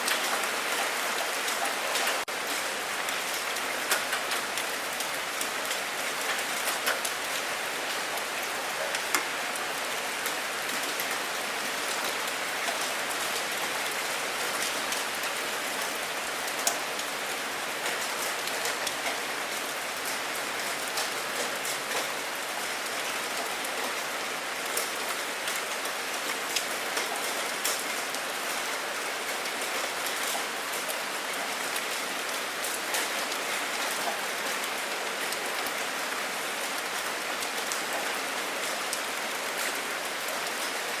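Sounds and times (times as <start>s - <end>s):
sharp nearby raindrops: 0.0s - 41.0s
steady rain pattering: 0.0s - 41.0s.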